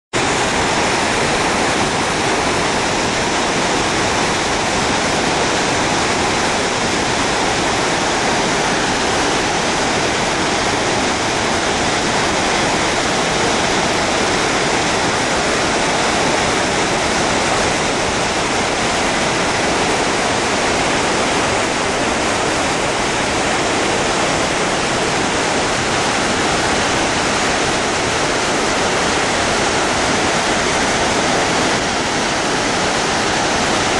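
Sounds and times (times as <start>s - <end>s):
floodwater rushing: 0.1s - 33.9s.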